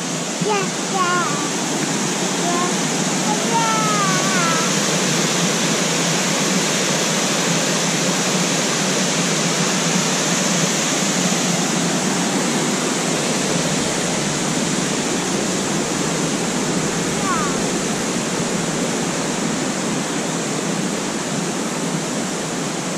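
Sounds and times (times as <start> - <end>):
stream cascading over boulders: 0.0 - 22.9.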